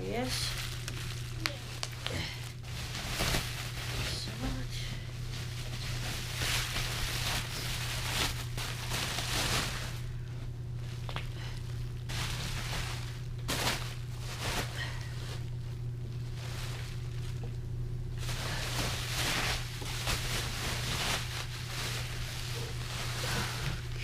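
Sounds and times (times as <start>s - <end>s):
steady low hum: 0.0s - 24.0s
cardboard and packing rustling: 0.1s - 17.6s, 18.2s - 24.0s.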